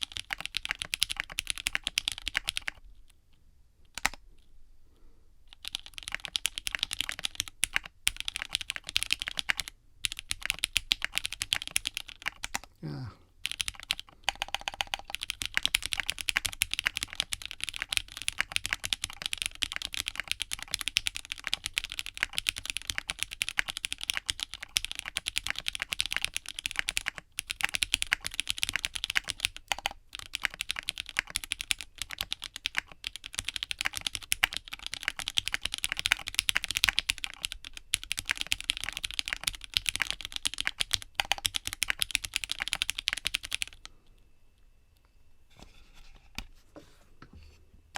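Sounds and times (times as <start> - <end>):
fast typing on mechanical keyboard: 0.0 - 2.8, 4.0 - 4.2, 5.5 - 12.7, 13.4 - 43.9.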